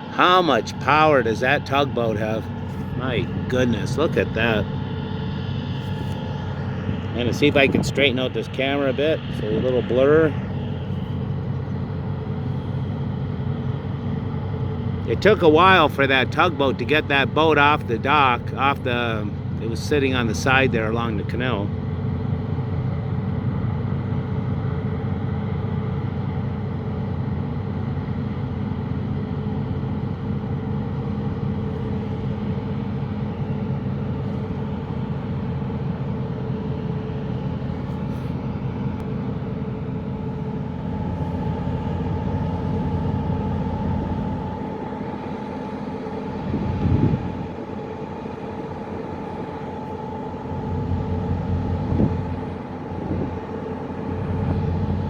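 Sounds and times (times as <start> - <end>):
boat diesel engines droning: 0.0 - 55.0.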